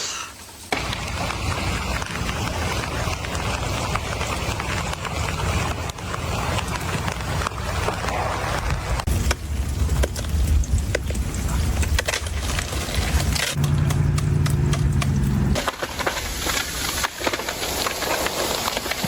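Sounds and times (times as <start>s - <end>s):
icy branches cracking: 0.7s - 19.0s.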